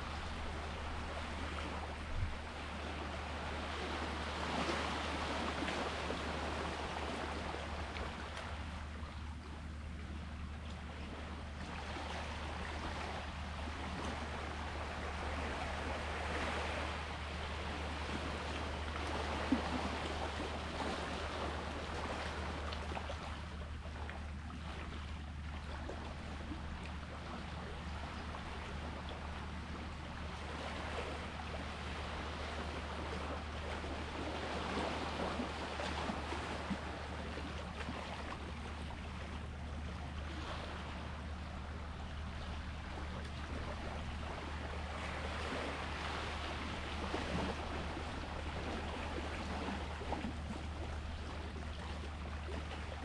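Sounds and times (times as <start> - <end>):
sea waves washing ashore: 0.0 - 53.0
steady low hum: 0.0 - 53.0.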